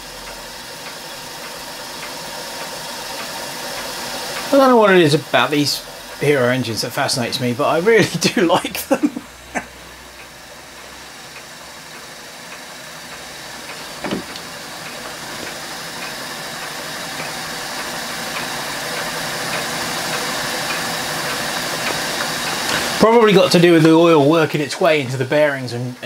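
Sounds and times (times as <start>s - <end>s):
steam jets hissing: 0.0s - 26.0s.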